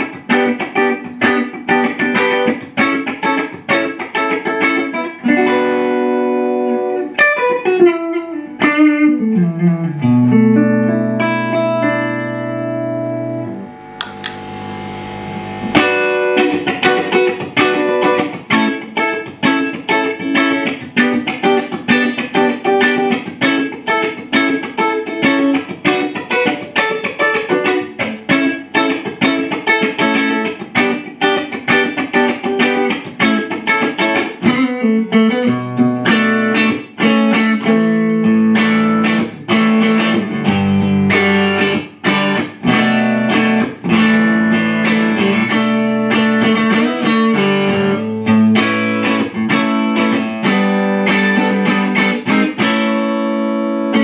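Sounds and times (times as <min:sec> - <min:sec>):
electric guitar notes and chords: 0:00.0 - 0:54.0.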